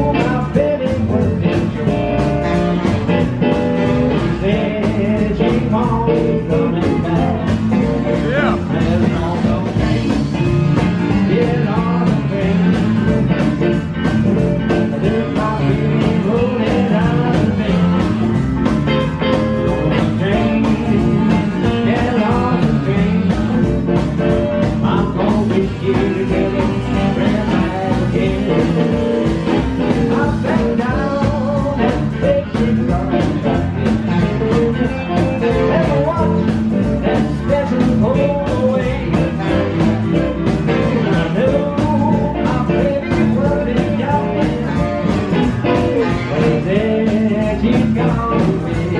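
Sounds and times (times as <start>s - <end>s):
live blues band playing: 0.0s - 48.9s.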